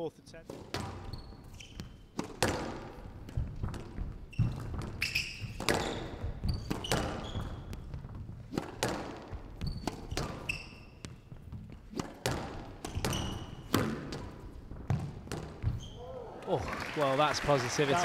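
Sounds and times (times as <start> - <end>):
shoes squeaking on court floor: 0.4 - 16.4
squash ball striking rackets and walls: 0.5 - 16.1.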